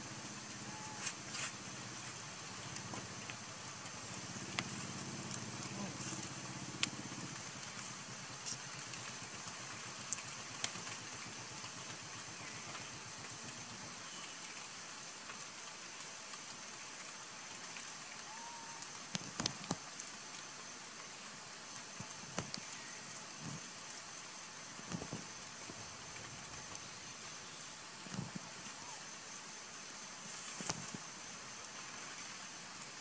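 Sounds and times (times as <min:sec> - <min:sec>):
light rain hissing: 0:00.0 - 0:33.0.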